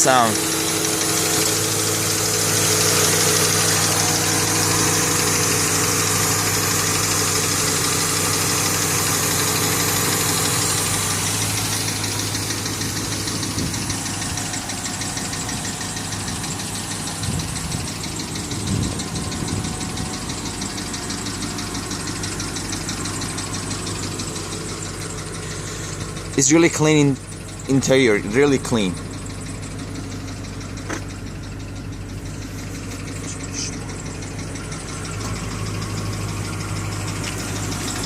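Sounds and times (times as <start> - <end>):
car engine idling: 0.0 - 38.0
light engine knocking: 0.1 - 38.0.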